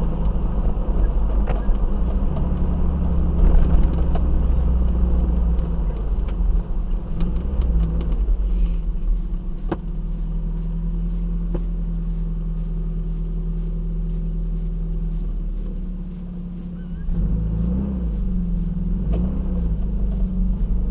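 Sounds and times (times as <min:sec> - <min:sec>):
engine deep rumble: 0:00.0 - 0:20.9.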